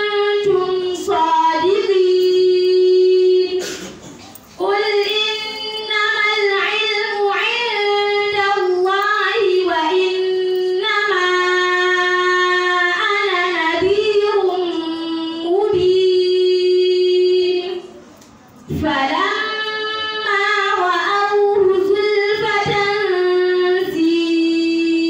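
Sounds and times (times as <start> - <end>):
woman reciting melodically: 0.0 - 25.0.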